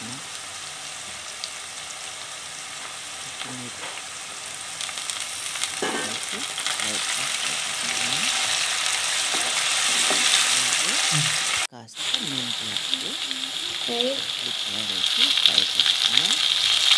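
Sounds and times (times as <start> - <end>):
onions sizzling in oil: 0.0 - 16.9.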